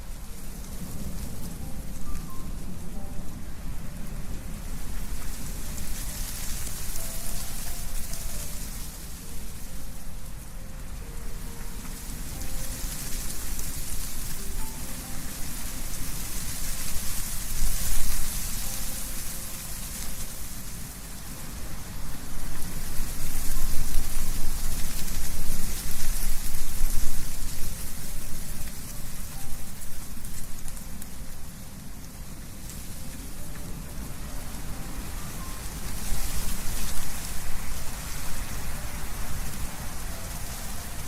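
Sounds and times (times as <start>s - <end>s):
wind rustling leaves: 0.0s - 41.0s.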